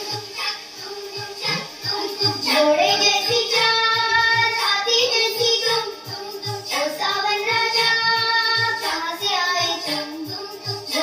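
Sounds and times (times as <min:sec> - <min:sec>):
high voice singing over a beat: 0:00.0 - 0:11.0.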